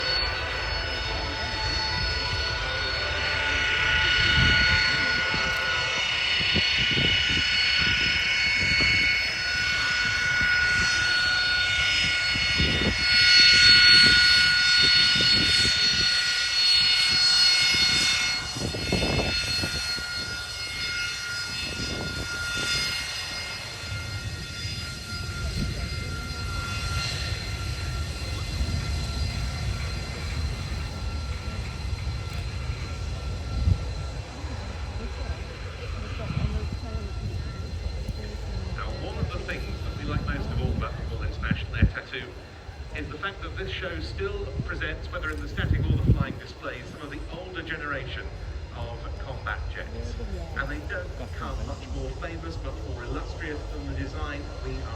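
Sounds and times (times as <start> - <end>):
jet engine whine and rumble: 0.0 - 54.9.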